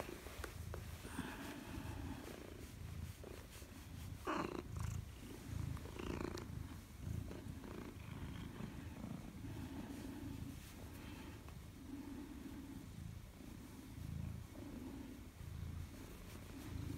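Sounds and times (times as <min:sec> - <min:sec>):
cat purring: 0:00.0 - 0:16.9.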